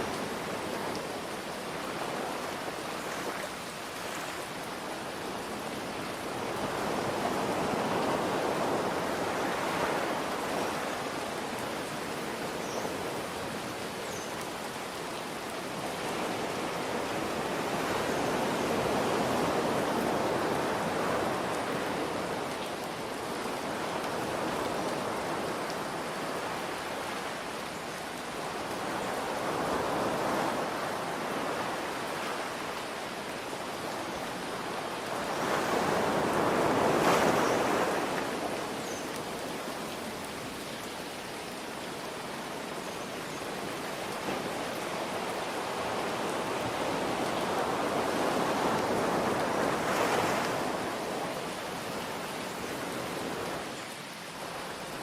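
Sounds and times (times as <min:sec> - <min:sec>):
ocean surf: 0:00.0 - 0:41.0, 0:41.7 - 0:55.0
rain hiss: 0:00.0 - 0:55.0.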